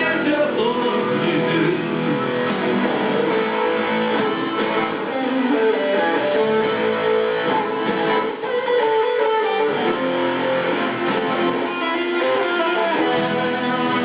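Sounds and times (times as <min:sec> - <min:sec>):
guitar strummed and picked: 0:00.0 - 0:14.0.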